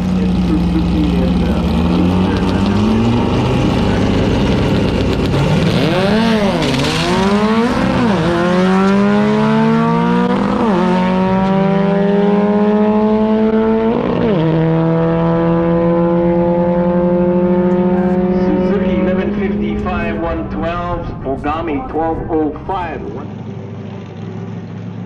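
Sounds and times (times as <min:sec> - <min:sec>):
drag racing cars accelerating: 0:00.0 - 0:25.0.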